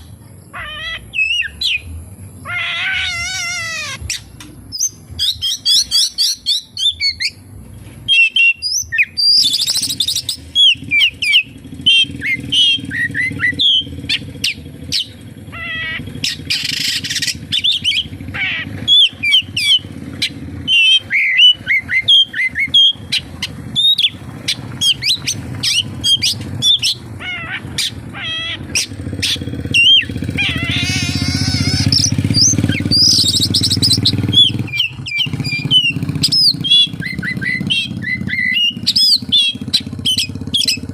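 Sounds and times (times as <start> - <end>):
bird singing chirps and trills: 0.0 - 40.9.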